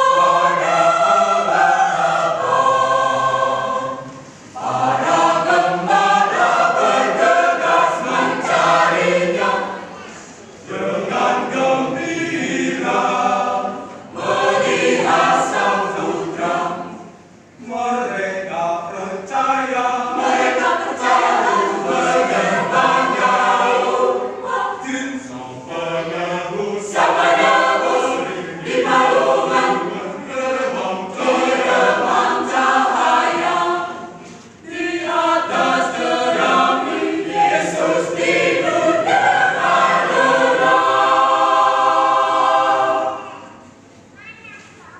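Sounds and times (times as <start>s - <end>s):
mixed choir singing in harmony: 0.0s - 44.0s.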